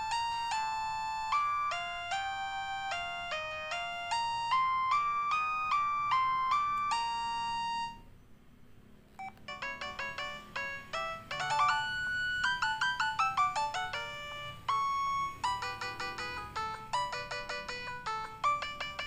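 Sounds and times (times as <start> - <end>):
phone ringtone melody: 0.0 - 8.0, 9.2 - 19.0.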